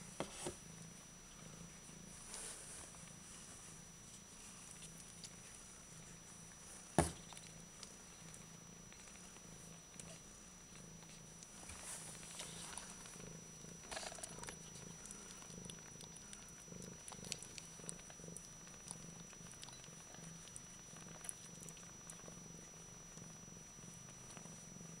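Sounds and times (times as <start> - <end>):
cat purring: 0.3 - 25.0
kittens suckling clicks and rustles: 1.3 - 25.0.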